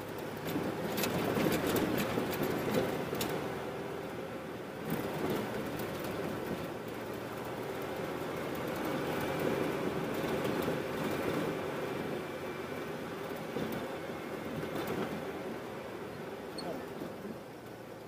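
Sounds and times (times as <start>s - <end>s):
vehicle rumbling on dirt road: 0.0s - 18.0s.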